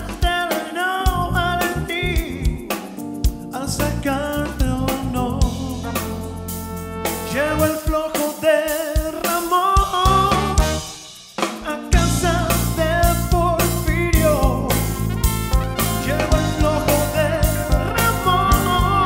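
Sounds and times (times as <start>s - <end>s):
man singing drawn-out vocal line: 0.0s - 2.9s, 3.6s - 6.2s, 7.3s - 10.8s, 11.6s - 15.0s, 15.8s - 19.0s
live band playing: 0.0s - 19.0s.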